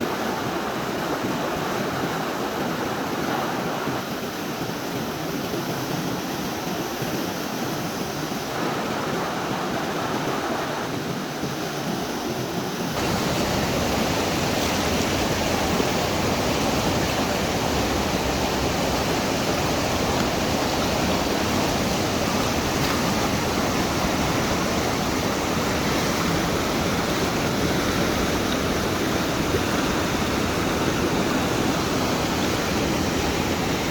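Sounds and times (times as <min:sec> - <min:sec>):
fast-flowing river rushing: 0:00.0 - 0:33.9.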